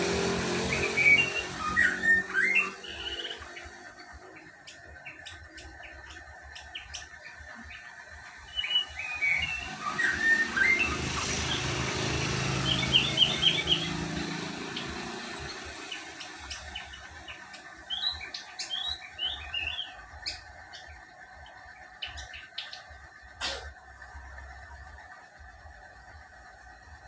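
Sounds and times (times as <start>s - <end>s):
bird chirps and sliding notes: 0.0s - 22.9s.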